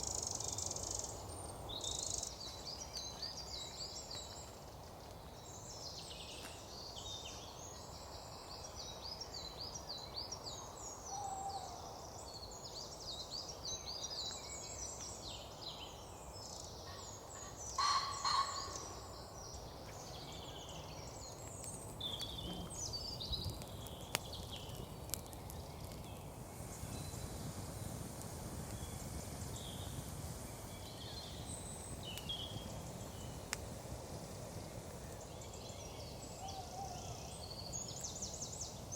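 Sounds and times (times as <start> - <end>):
small birds singing and chirping: 0.0 - 27.6, 28.5 - 33.6, 34.2 - 38.9
low background hiss: 0.0 - 38.9.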